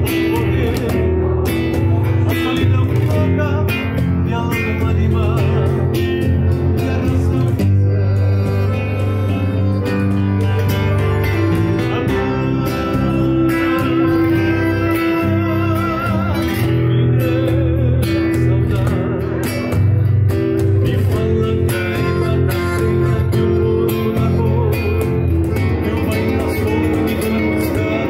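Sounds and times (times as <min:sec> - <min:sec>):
acoustic guitars: 0:00.0 - 0:28.0
electric bass: 0:00.0 - 0:28.0
man singing: 0:00.0 - 0:28.0.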